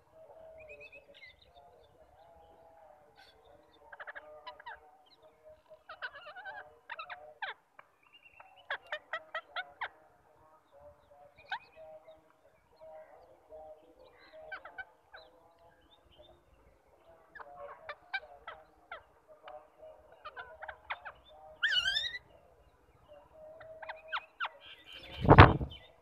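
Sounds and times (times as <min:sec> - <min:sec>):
birds chirping and chattering: 0:00.0 - 0:26.0.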